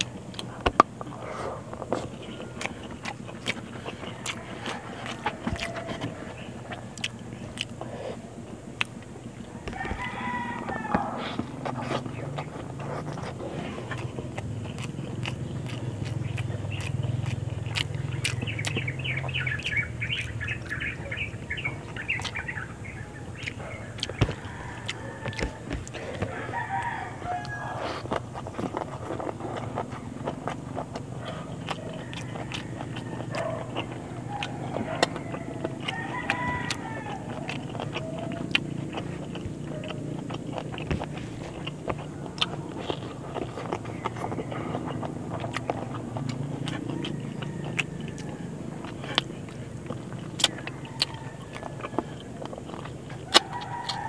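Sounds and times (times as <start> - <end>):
chickens clucking: 0.0 - 54.0
person chewing food: 0.0 - 54.0
rooster crowing: 2.2 - 7.6, 9.3 - 12.9, 17.7 - 54.0.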